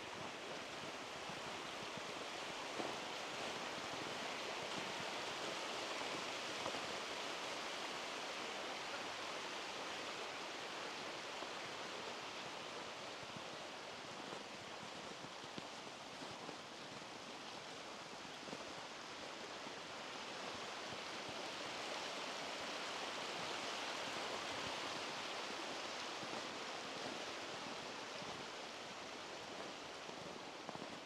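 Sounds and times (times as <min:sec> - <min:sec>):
running water rushing: 0:00.0 - 0:31.0.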